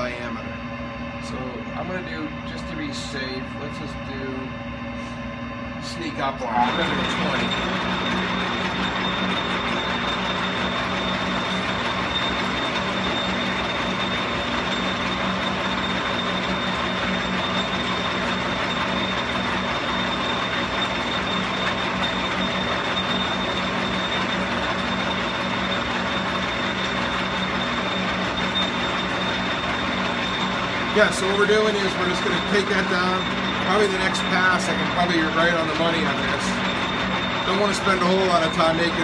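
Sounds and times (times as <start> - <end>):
metal lathe running: 5.7 - 39.0.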